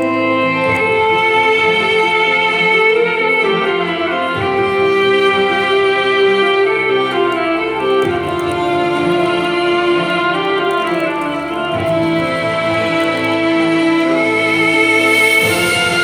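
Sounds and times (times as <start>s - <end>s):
low sustained accompaniment: 0.0s - 16.0s
violin slow melody: 0.0s - 16.0s.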